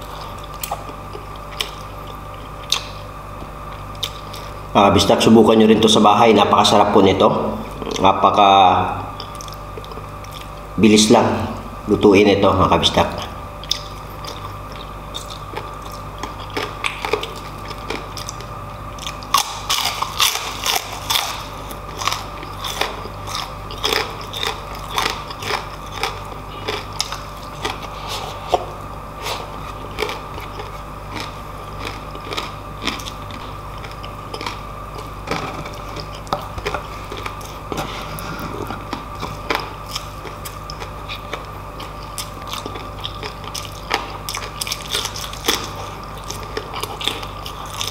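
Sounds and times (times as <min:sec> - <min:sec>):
chewing with wet mouth sounds: 0:00.0 - 0:04.6, 0:09.1 - 0:10.7, 0:13.1 - 0:47.9
crispy food crunching: 0:00.0 - 0:06.8, 0:07.6 - 0:10.8, 0:12.7 - 0:47.9
faint steady hum: 0:00.0 - 0:47.9.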